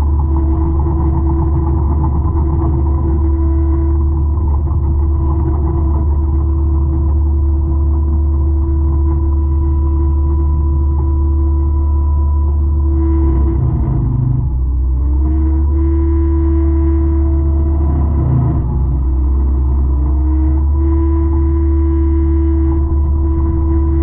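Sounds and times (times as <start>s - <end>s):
constant droning tone: 0.0s - 24.0s
heavy engine rumble: 0.0s - 24.0s.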